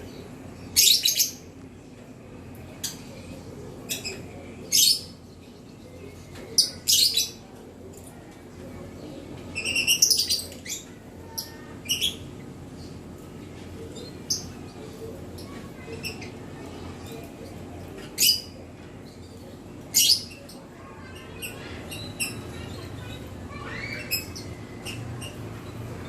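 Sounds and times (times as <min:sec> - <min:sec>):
canary chirping: 0:00.0 - 0:01.6, 0:02.6 - 0:26.0.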